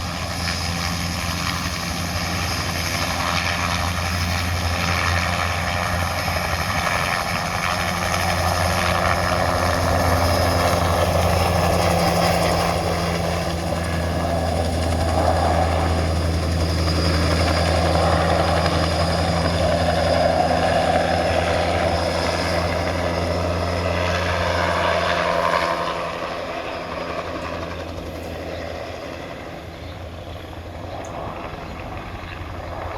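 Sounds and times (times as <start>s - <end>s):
helicopter flying over: 0.0s - 32.9s.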